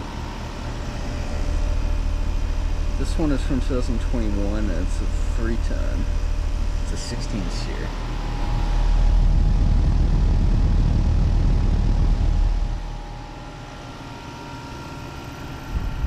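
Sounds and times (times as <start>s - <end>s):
faint hum: 0.0s - 16.0s
heat pump fan air rushing: 0.0s - 16.0s.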